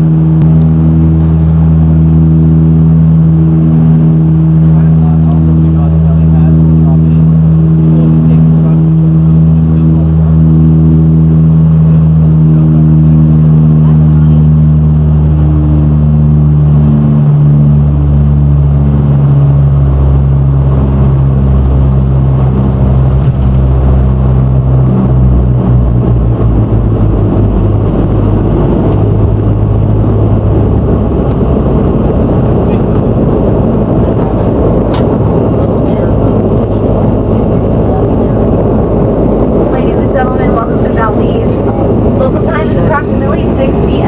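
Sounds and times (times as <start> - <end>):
propeller drone in cabin: 0.0 - 44.0
rough rushing noise: 0.0 - 44.0.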